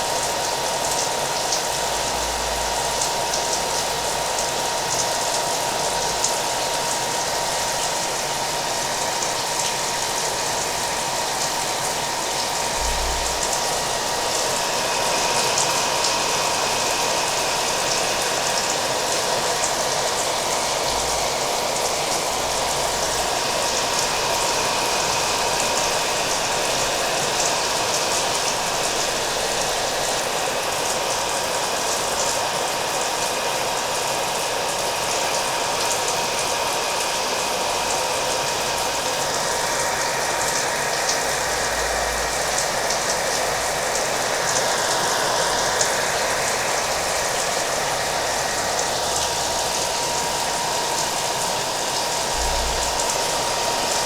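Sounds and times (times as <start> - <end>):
hair dryer running: 0.0 - 54.0
rain: 0.0 - 54.0.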